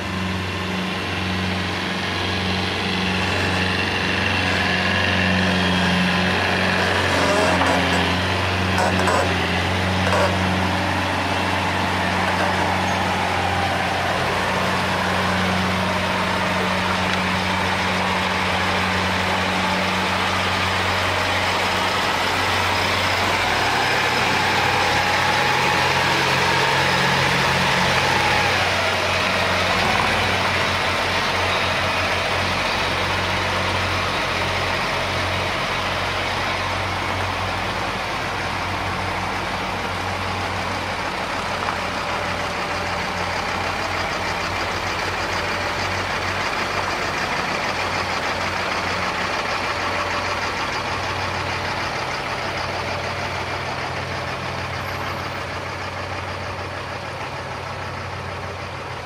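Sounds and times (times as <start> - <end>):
heavy diesel trucks driving past: 0.0 - 59.0.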